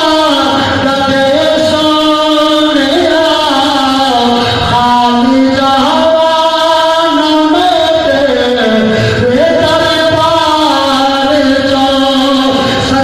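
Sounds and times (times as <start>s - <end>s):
man singing a chant: 0.0s - 13.0s.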